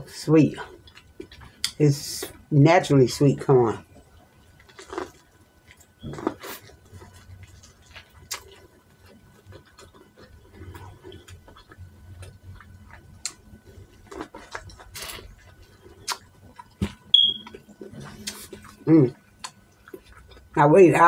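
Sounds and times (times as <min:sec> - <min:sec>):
person chewing: 0:00.5 - 0:02.4, 0:03.8 - 0:20.6.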